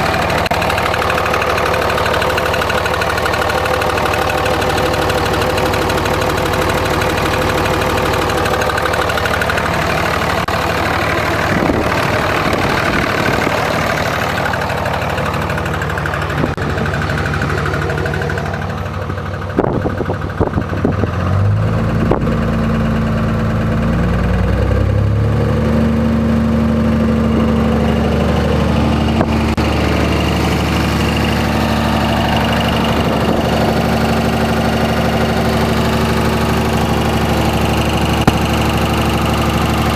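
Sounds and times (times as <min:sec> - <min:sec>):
deep rising drone: 0:00.0 - 0:19.9, 0:20.9 - 0:39.9
diesel engine knocking: 0:00.0 - 0:39.9.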